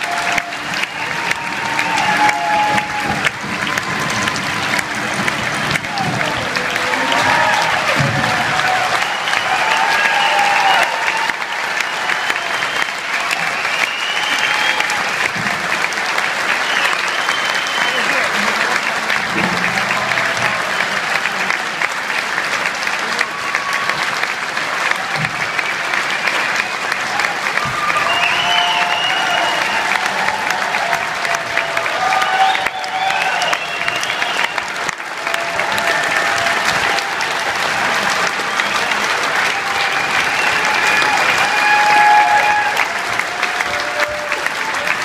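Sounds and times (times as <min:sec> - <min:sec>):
audience applauding: 0:00.0 - 0:45.0.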